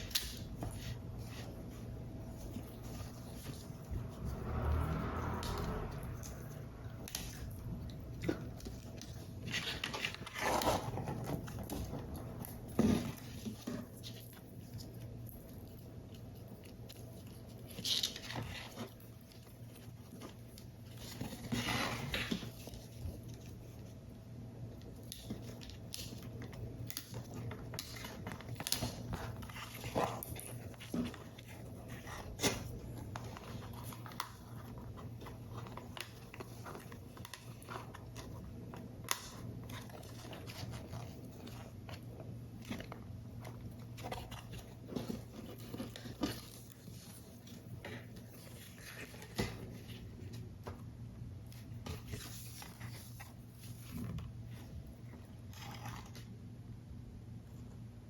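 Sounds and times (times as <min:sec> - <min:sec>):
paper rustling: 0:07.0 - 0:24.1, 0:24.9 - 0:56.4.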